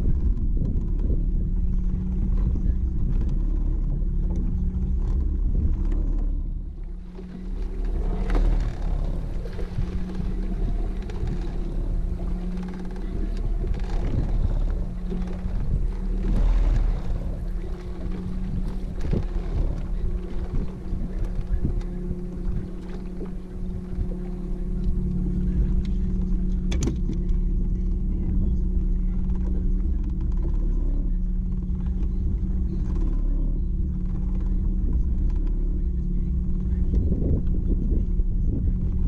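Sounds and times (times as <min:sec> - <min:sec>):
boat motor humming: 0:00.0 - 0:39.0.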